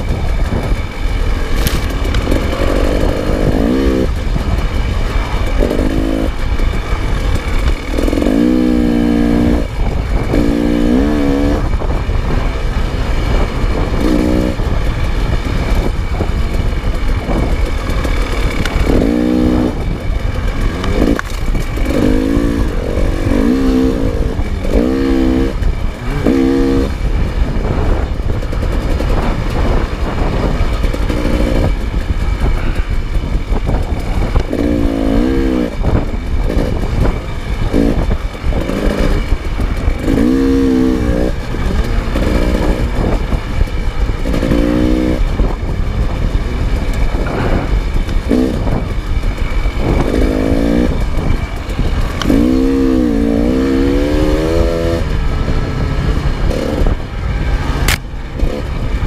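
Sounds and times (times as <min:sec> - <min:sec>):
dirt bike engine revving: 0:00.0 - 0:59.0
low rumble: 0:00.0 - 0:59.0.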